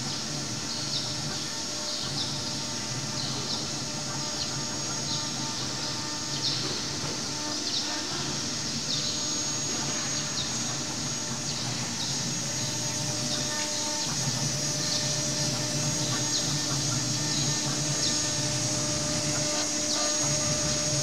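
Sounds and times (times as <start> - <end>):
router spindle whining: 0.0 - 21.0
bit engraving stone: 0.3 - 21.0.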